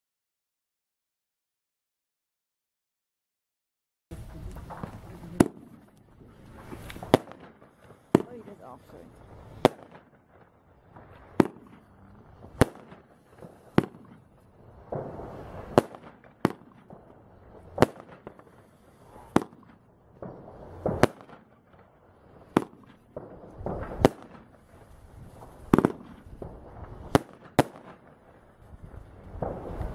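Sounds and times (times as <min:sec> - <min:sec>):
firework bangs: 0:04.1 - 0:29.9
firework rushing noise: 0:04.1 - 0:29.9.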